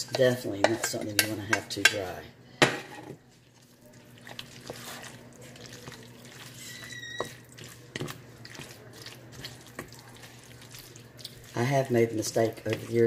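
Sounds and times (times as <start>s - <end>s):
spoon stirring wet filling: 0.0s - 2.2s, 3.1s - 13.0s.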